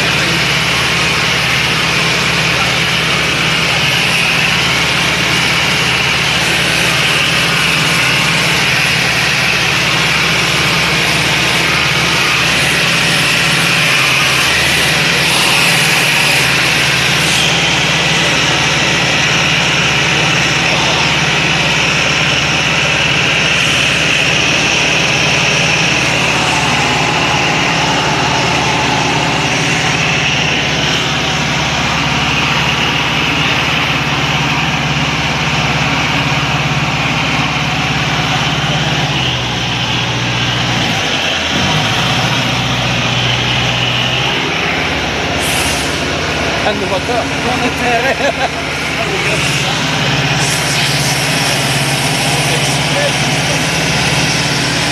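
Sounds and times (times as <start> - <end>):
aircraft engine and propeller: 0.0 - 54.9.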